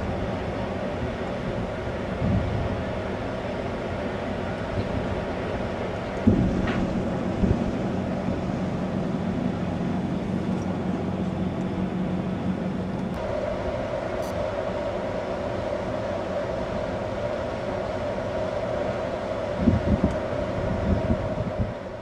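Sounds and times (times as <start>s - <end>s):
low train hum: 0.0s - 22.0s
train rail rumble: 0.0s - 22.0s.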